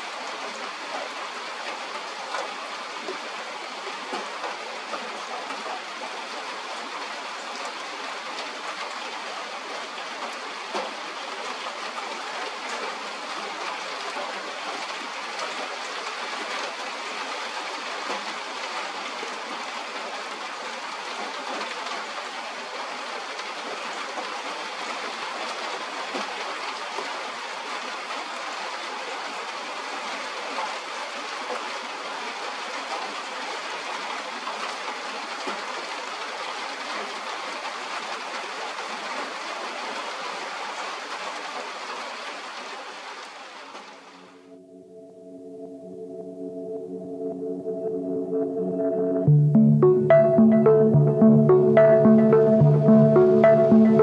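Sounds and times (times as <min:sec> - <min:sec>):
steady rain falling: 0:00.0 - 0:44.7, 0:45.4 - 0:54.0.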